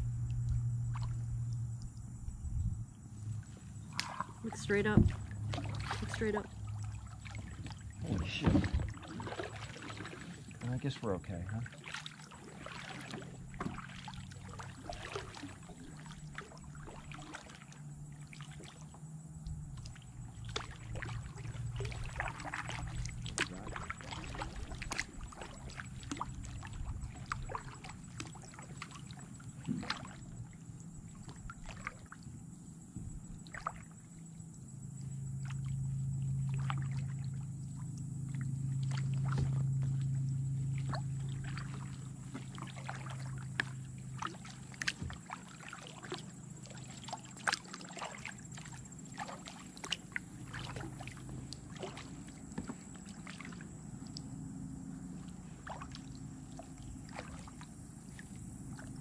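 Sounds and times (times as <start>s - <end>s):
low steady hum: 0.0s - 59.0s
paddle dipping and splashing: 0.0s - 59.0s.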